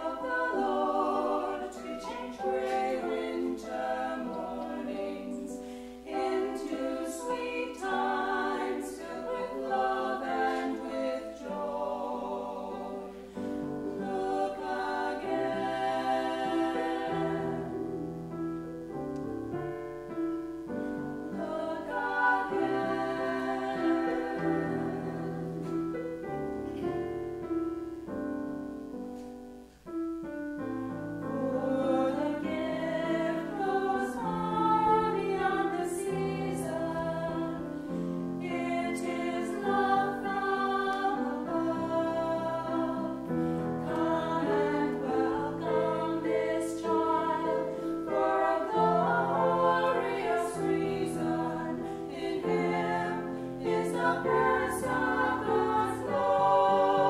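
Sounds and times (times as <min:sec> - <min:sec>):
women singing in harmony: 0:00.0 - 0:18.8, 0:20.6 - 0:27.4, 0:31.2 - 0:57.0
piano chords: 0:00.0 - 0:57.0.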